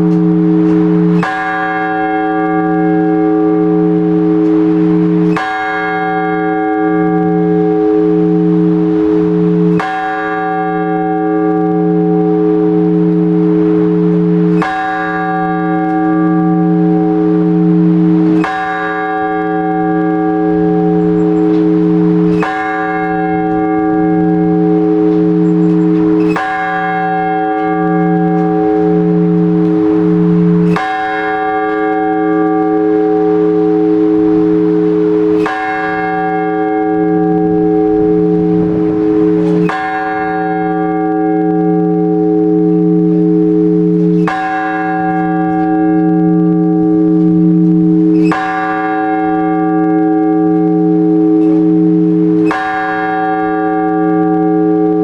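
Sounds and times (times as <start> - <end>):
large church bell tolling: 0.0 - 55.0.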